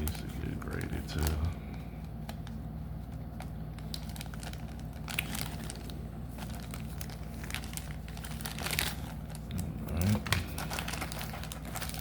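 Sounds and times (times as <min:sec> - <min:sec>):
cards and packaging crinkling: 0:00.0 - 0:12.0
steady low hum: 0:00.0 - 0:12.0.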